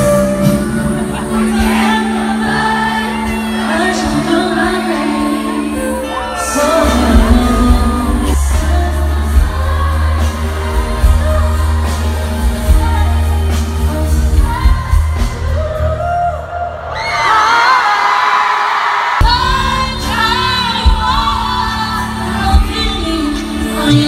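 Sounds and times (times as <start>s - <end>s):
woman singing pop song: 0.0s - 18.0s, 19.2s - 24.0s.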